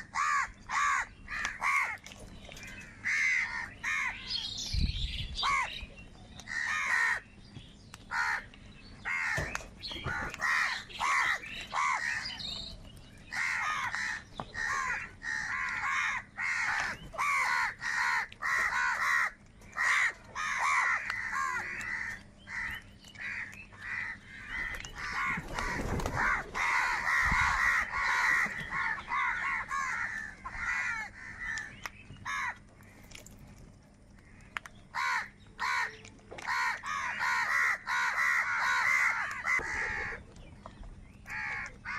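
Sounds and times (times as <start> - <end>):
crows cawing: 0.0 - 2.0, 2.6 - 4.5, 5.4 - 5.8, 6.4 - 7.3, 8.1 - 12.7, 13.3 - 33.2, 34.2 - 40.2, 41.3 - 41.9.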